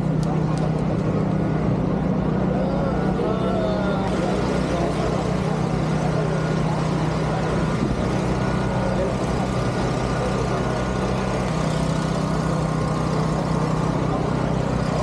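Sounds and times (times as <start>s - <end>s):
crowd talking: 0.0s - 15.0s
engine idling: 1.7s - 15.0s.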